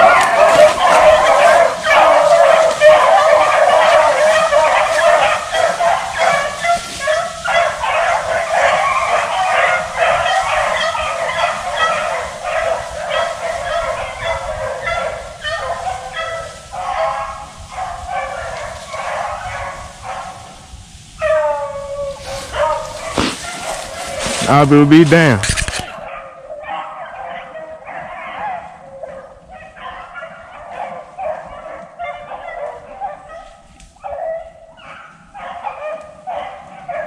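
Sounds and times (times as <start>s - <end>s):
pack of dogs baying: 0.0s - 37.0s
single dog long bay: 0.0s - 37.0s.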